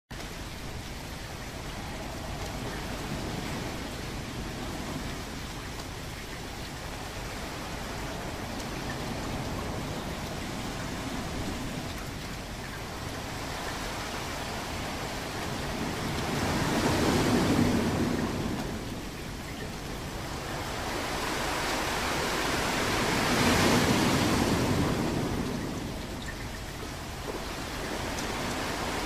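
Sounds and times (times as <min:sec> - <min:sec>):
ocean waves: 0:00.1 - 0:29.0.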